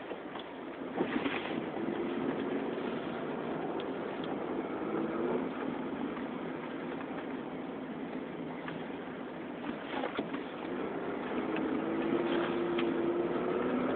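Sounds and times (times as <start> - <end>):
road and tyre noise: 0.0 - 13.9
car engine running: 0.3 - 13.9.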